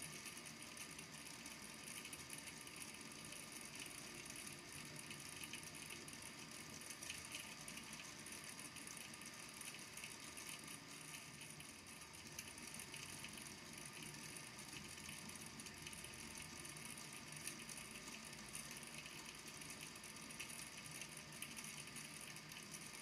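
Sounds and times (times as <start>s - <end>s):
small balls ticking in water: 0.0s - 23.0s.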